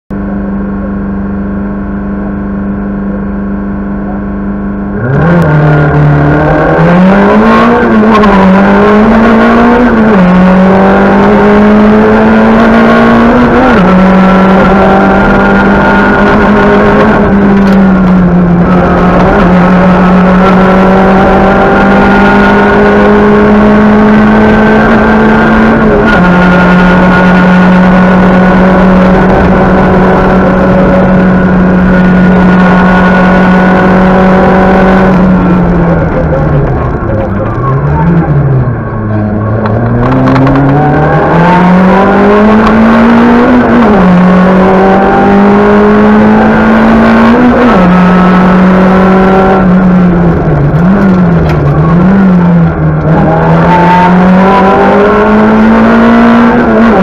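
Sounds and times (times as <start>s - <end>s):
rally car engine from inside cabin: 0.1s - 57.0s.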